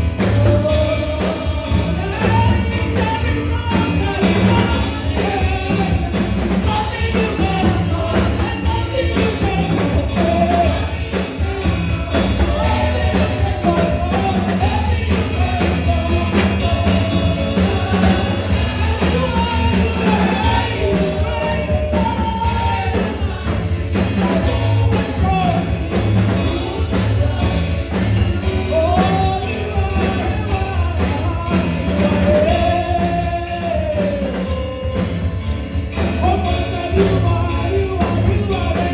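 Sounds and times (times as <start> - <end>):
worship singing with band: 0.0 - 38.9.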